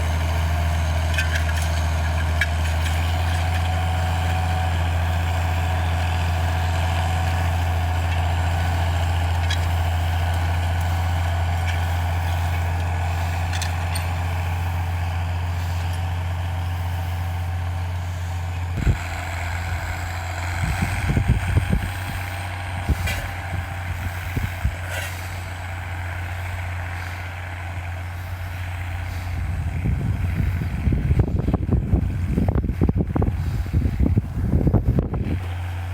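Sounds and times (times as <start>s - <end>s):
heavy engine idling: 0.0s - 35.9s.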